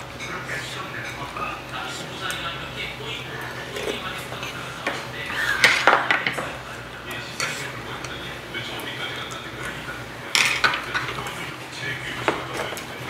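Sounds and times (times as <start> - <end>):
metal spoons clinking on bowls: 0.2 - 11.4.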